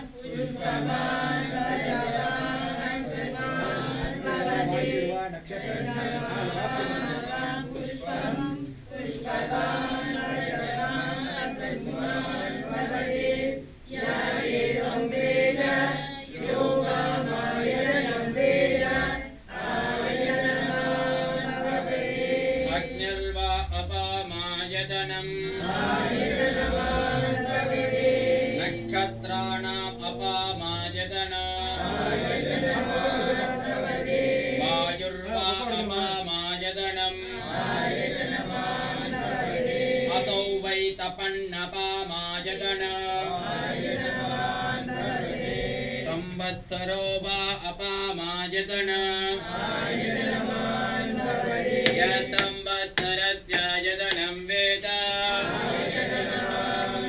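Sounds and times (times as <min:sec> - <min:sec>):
voices chanting together: 0:00.0 - 0:57.0.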